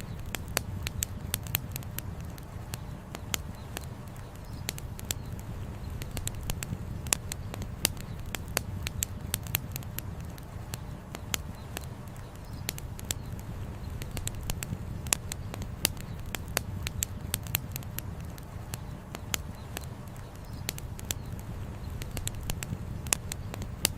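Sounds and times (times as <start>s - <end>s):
firewood crackling and popping: 0.0s - 23.9s
low fire rumble: 0.0s - 23.9s.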